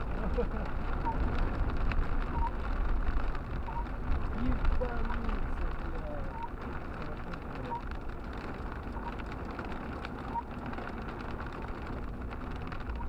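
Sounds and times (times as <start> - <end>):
hail and rain on car roof: 0.0 - 13.0
low rumble of car: 0.0 - 13.0.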